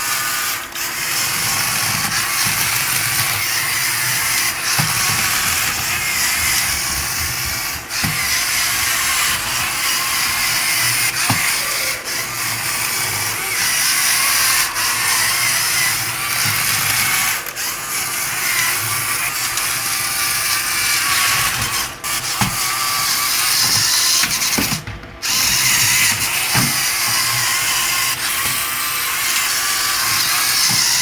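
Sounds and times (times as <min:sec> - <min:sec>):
toy car motors whirring: 0:00.0 - 0:31.0.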